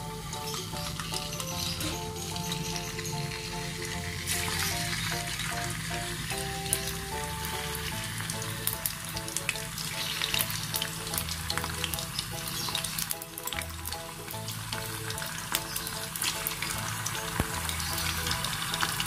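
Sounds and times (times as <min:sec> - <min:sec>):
background music: 0:00.0 - 0:19.0
chicken livers sizzling in oil: 0:00.0 - 0:19.0.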